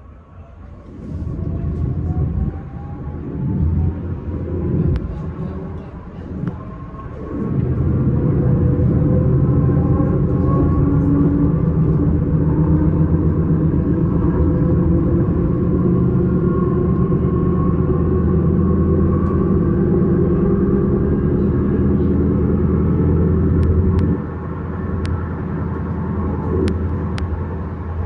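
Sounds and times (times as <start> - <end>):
electric train rumbling: 0.0 - 28.0
low drive hum: 0.0 - 28.0.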